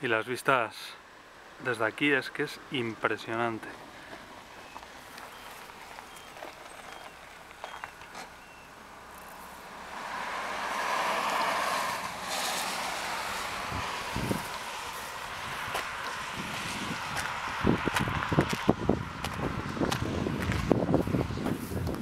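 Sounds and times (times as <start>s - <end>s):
car passing: 3.8s - 21.8s.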